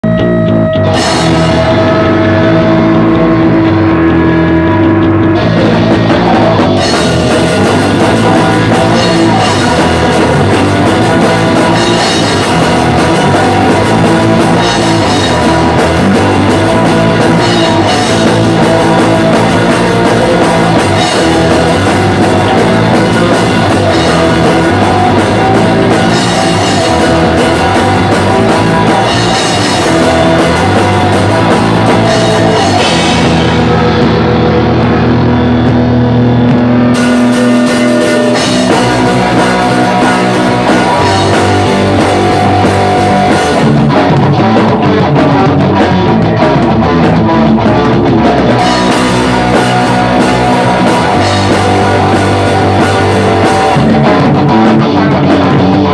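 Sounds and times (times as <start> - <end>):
bass guitar: 0.0 - 55.9
distorted electric guitar: 0.0 - 55.9
drum kit: 0.0 - 55.9.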